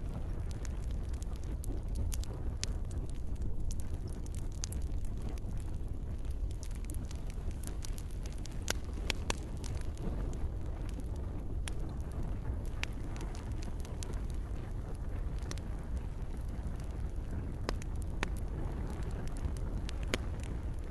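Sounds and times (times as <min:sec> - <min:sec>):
campfire crackling and popping: 0:00.0 - 0:20.9.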